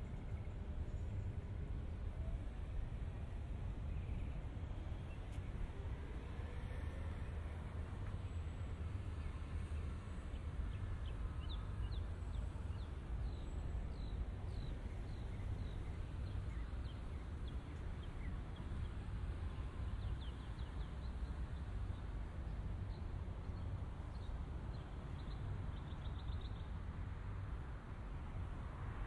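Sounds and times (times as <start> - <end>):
low city rumble: 0.0 - 29.0.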